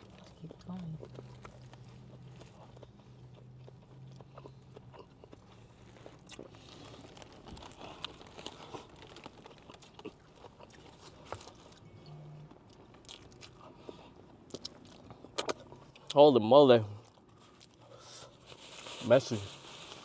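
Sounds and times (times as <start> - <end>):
crunchy chewing: 0.0 - 11.8, 12.4 - 16.2, 16.8 - 18.7
low steady hum: 0.0 - 20.0.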